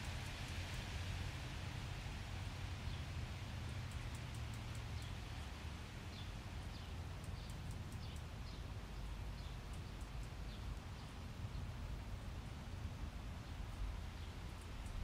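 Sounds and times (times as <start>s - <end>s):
small birds chirping: 2.8s - 15.0s.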